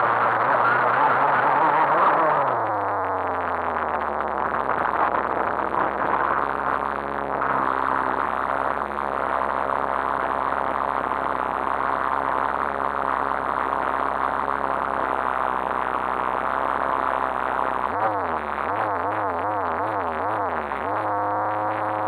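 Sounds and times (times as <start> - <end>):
muffled engine idling: 0.0 - 22.0.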